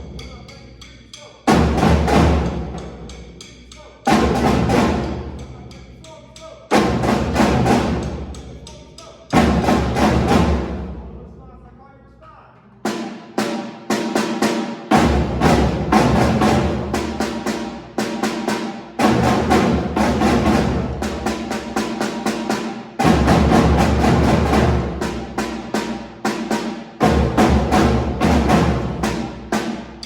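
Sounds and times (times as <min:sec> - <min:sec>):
drum and percussion music: 0:00.0 - 0:11.7, 0:12.3 - 0:30.0.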